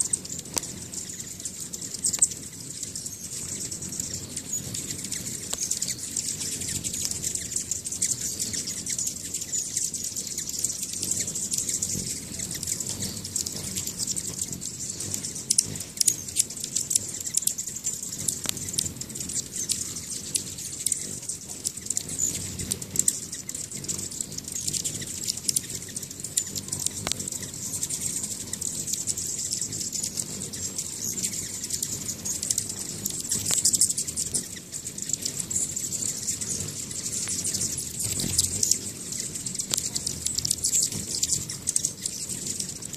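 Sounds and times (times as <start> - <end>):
hummingbirds chipping and twittering: 0.0 - 42.9
whir of hummingbird wings: 0.0 - 42.9.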